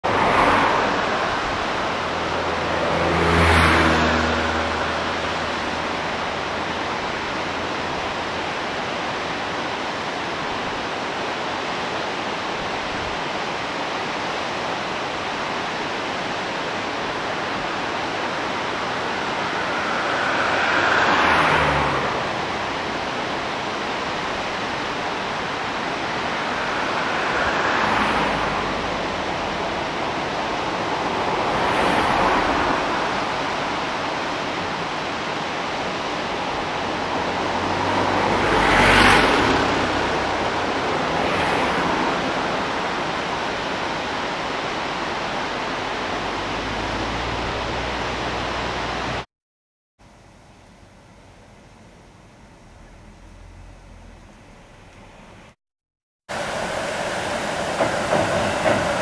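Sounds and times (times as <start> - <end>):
steady rushing noise: 0.0 - 49.2, 56.3 - 59.0.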